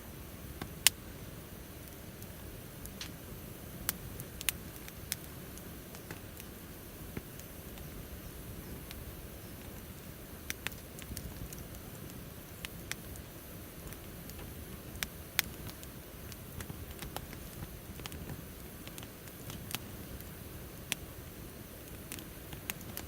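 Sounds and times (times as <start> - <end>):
wood fire crackling and popping: 0.1 - 23.0.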